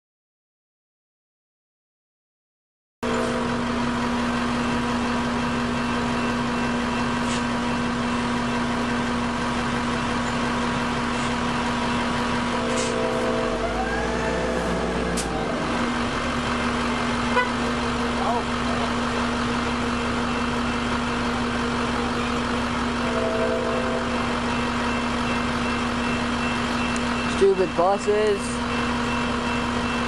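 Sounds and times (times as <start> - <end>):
vehicle engine idling: 3.0 - 30.0.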